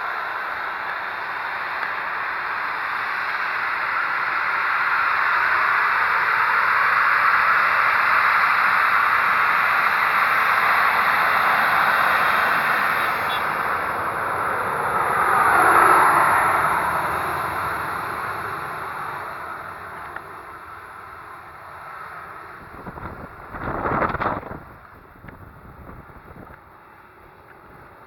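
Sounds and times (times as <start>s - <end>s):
jet engines taxiing: 0.0s - 28.0s.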